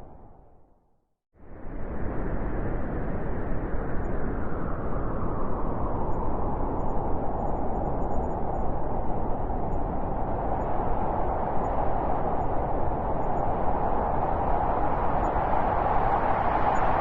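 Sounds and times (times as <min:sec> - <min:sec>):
blizzard wind rushing: 0:01.4 - 0:17.0
wind howling: 0:01.7 - 0:17.0.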